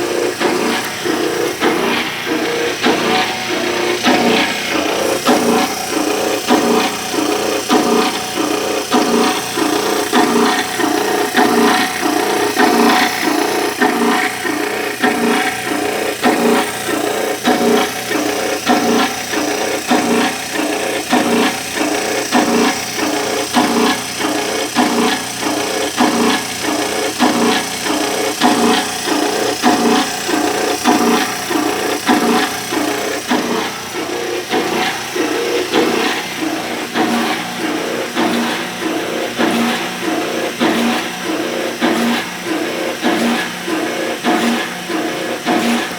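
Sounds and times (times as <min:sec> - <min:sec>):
motor hum: 0:00.0 - 0:45.9
washing machine agitator churning: 0:00.0 - 0:45.9.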